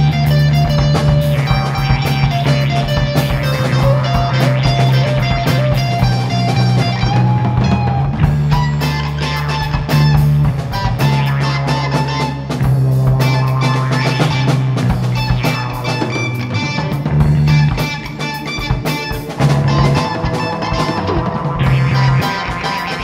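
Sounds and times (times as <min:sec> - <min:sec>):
bass line: 0:00.0 - 0:23.0
drum kit: 0:00.0 - 0:23.0
electric guitar: 0:00.0 - 0:23.0
instrumental rock band: 0:00.0 - 0:23.0.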